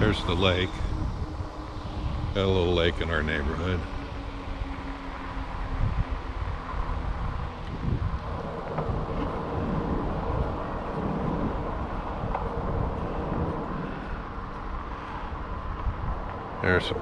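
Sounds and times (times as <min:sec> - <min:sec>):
electric bike vehicle noise: 0:00.0 - 0:17.0
wind buffeting microphone: 0:00.0 - 0:17.0.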